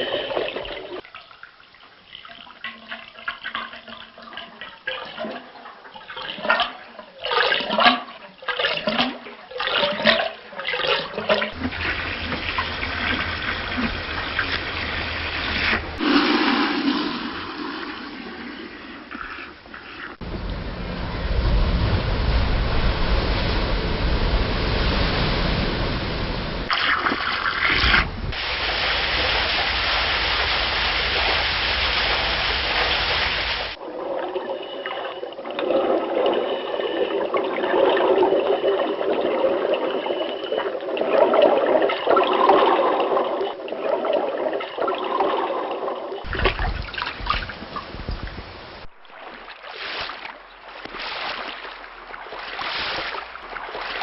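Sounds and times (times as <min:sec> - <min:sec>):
bubbling gurgling water: 0:00.0 - 0:49.6
water splashing: 0:02.2 - 0:54.0
rushing water: 0:08.5 - 0:54.0.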